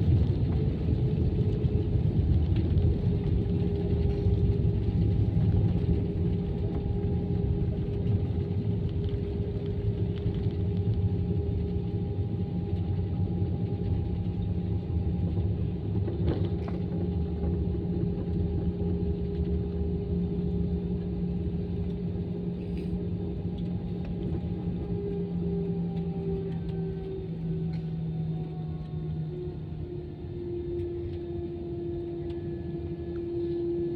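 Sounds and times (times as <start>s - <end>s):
constant engine hum: 0.0s - 33.9s
jet cabin rumble: 0.0s - 33.9s.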